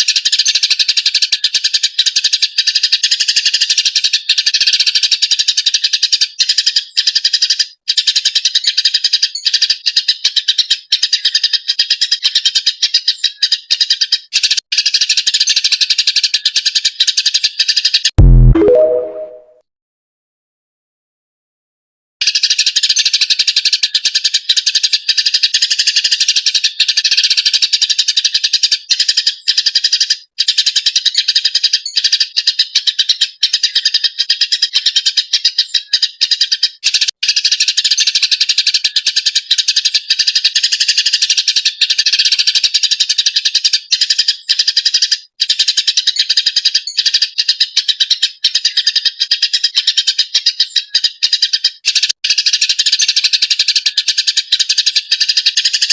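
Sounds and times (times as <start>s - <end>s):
sparrow chirping rapidly: 0.0s - 18.1s, 22.2s - 55.9s.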